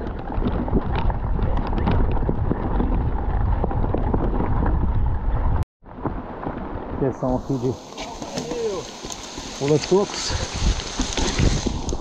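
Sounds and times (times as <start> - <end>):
bike tyres rolling: 0.0 - 12.0
wind buffeting microphone: 0.0 - 12.0.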